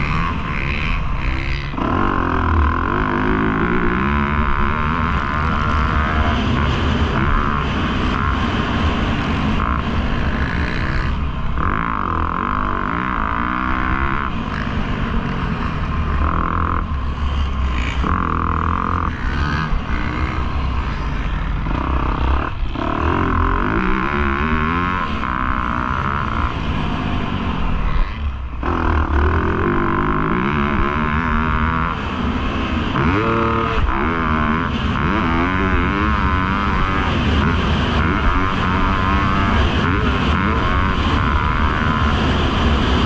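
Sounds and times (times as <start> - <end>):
low wind rumble: 0.0 - 43.0
motocross bike engine revving: 0.0 - 43.0.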